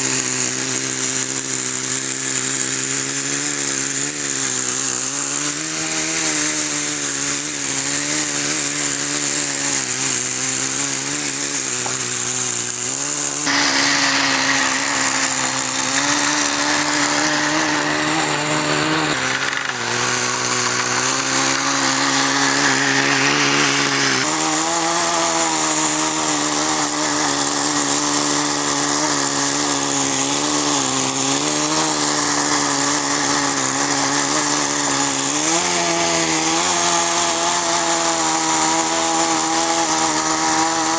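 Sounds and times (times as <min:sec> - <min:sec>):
small nitro engine running: 0:00.0 - 0:40.9.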